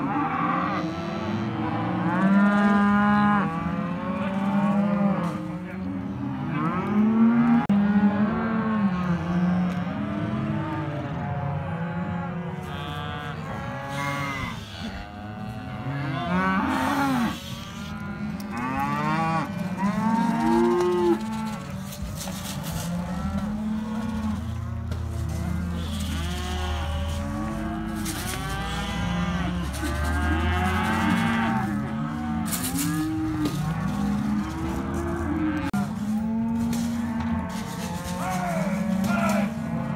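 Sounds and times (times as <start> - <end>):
cattle bawling and mooing: 0.0 - 39.9.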